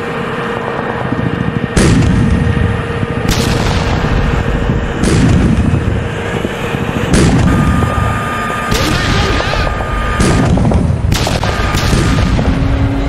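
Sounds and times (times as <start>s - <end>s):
faint steady whine: 0.0s - 12.9s
low battle rumble: 0.0s - 13.0s
tank cannon blasts: 1.8s - 12.9s.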